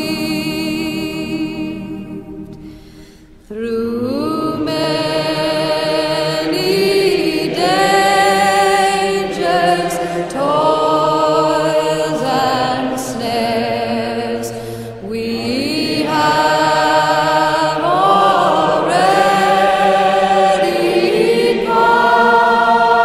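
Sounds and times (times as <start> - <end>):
slow singing with gliding notes: 0.0 - 23.0.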